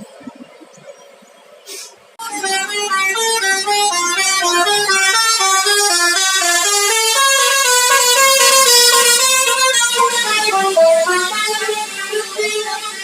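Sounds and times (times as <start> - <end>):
musical air horn melody: 2.2 - 13.0.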